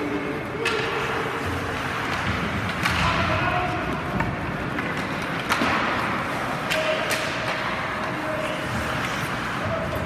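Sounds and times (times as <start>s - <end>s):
hockey sticks and puck knocking boards: 0.5s - 10.0s.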